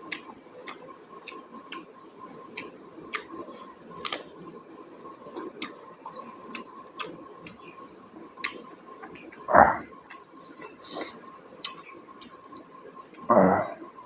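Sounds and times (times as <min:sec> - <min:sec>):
faint steady tone: 0:00.0 - 0:14.0
wet chewing clicks and smacks: 0:00.0 - 0:14.0.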